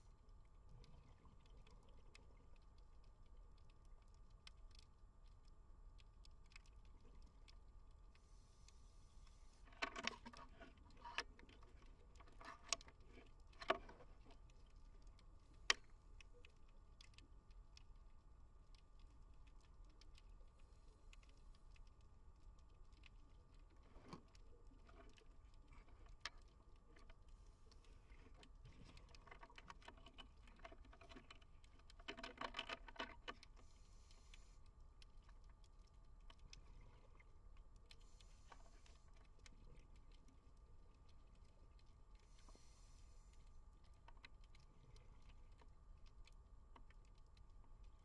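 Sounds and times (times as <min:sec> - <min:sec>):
underwater clicks and crackles: 0:00.0 - 0:48.0.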